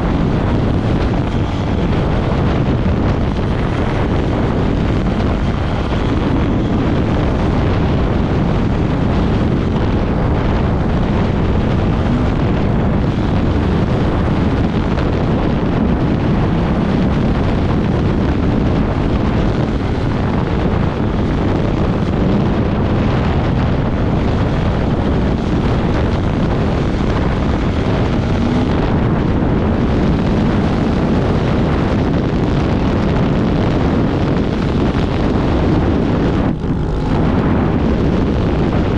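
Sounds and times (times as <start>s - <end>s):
motorcycle engine at speed: 0.0s - 38.9s
wind buffeting microphone: 0.0s - 38.9s.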